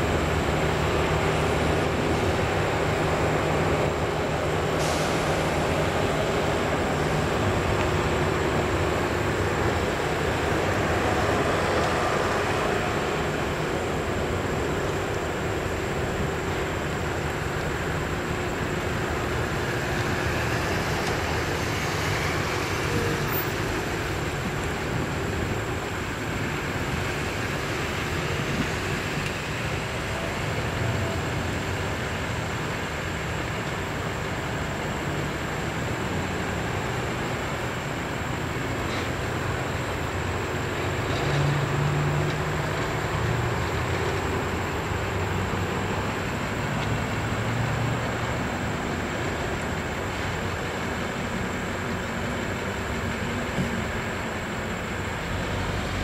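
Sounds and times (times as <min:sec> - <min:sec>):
diesel locomotives rumbling: 0:00.0 - 0:56.0
train wheels on rails: 0:00.0 - 0:56.0.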